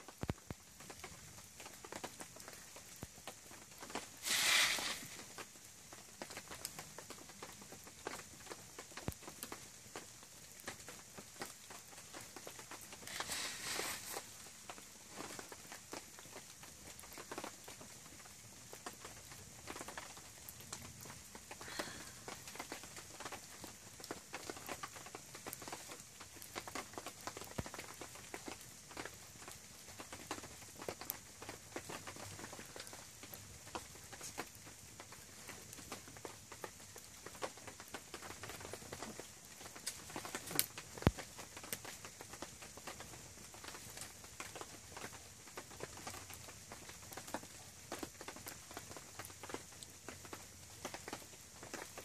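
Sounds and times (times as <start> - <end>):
sharp pops and snaps: 0.0 - 17.6, 18.8 - 52.0
faint steady hiss: 0.0 - 52.0
wood fire crackling: 0.0 - 52.0.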